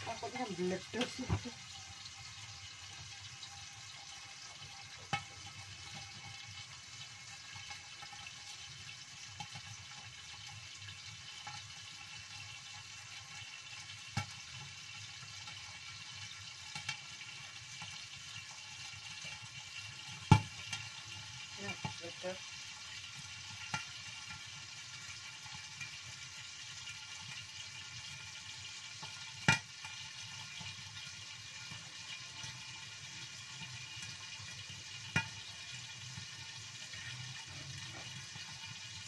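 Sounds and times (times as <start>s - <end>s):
fish frying in oil: 0.0s - 39.0s.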